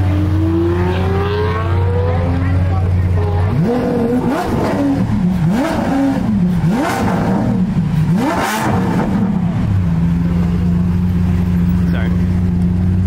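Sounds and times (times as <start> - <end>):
car engine idling: 0.0 - 13.0
car engine revving: 0.0 - 13.0.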